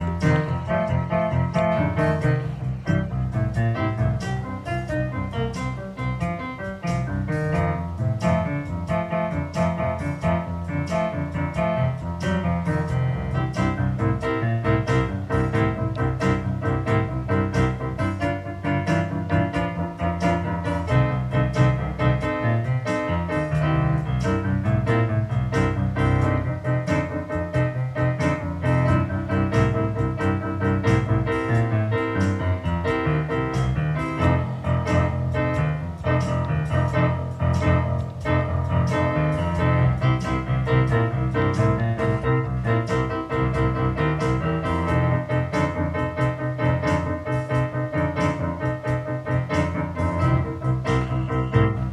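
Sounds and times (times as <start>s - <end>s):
solo piano music: 0.0s - 51.9s.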